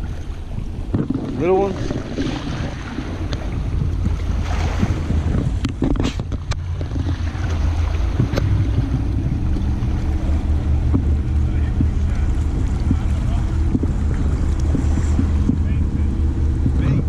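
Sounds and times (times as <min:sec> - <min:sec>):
low hum: 0:00.0 - 0:17.0
wind buffeting microphone: 0:00.0 - 0:17.0.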